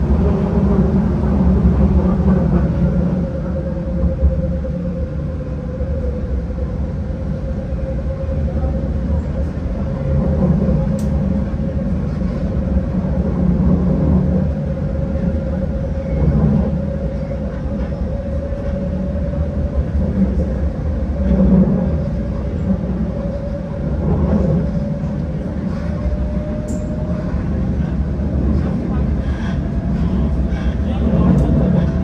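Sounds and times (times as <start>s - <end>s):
tram low rumble: 0.0s - 32.0s.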